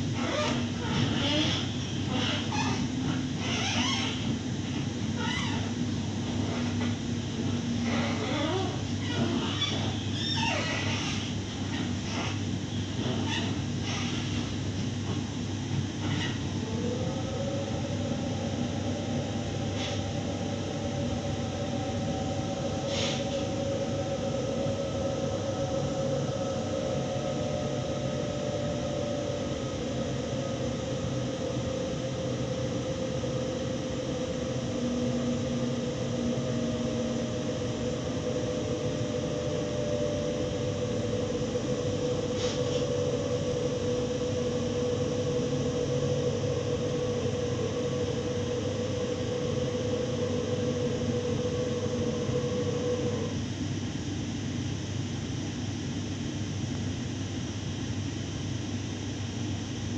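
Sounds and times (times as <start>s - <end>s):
train running rumble: 0.0s - 54.1s.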